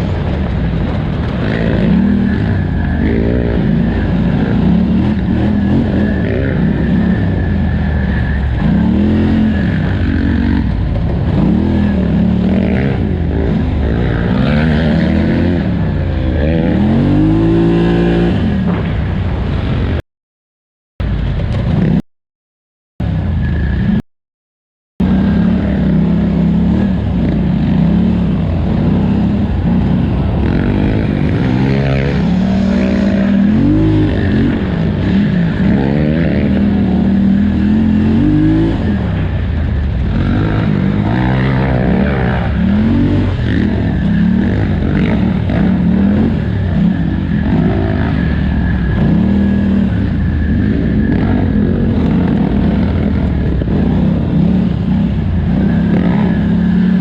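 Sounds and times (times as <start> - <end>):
engine revving under hard riding: 0.0 - 20.0, 21.0 - 22.0, 23.0 - 24.0, 25.0 - 57.0.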